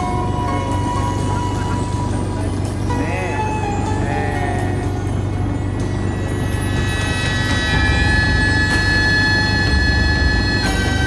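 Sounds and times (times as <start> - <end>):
boat engine rumbling: 0.0 - 11.0
music playing: 0.0 - 11.0
wavering pitched sound: 0.0 - 11.0.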